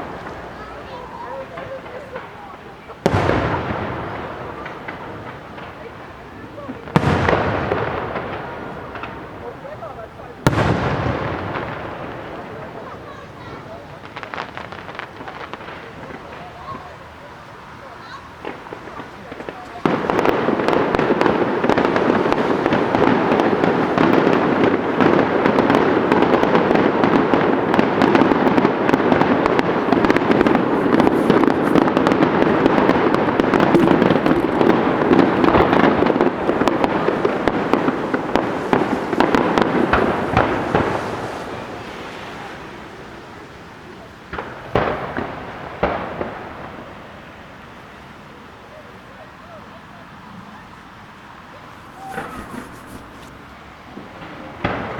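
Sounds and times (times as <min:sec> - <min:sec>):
fireworks bangs: 0:00.0 - 0:47.5, 0:51.4 - 0:54.9
fireworks bursting and crackling: 0:00.0 - 0:47.8, 0:51.3 - 0:54.9.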